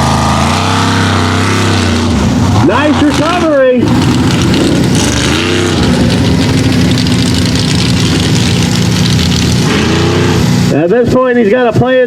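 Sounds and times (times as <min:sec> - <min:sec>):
truck engine running hard: 0:00.0 - 0:11.2.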